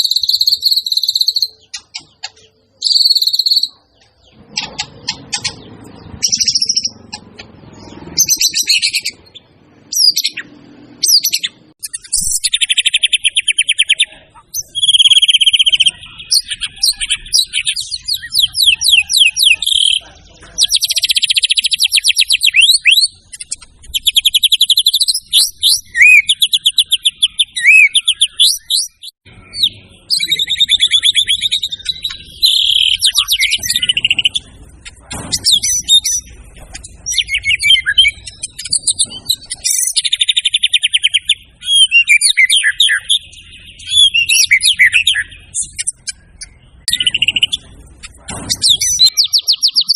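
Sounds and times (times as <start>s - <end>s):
bird singing trills and chatter: 0.0s - 49.9s.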